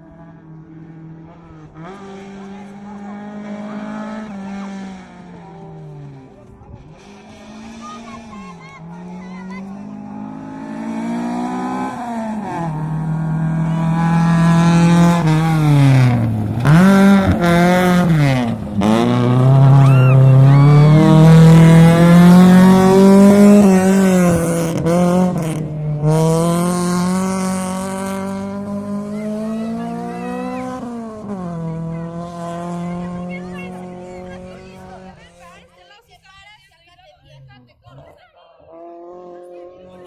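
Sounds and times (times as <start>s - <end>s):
rally car engine revving: 0.0s - 35.6s, 37.4s - 40.0s.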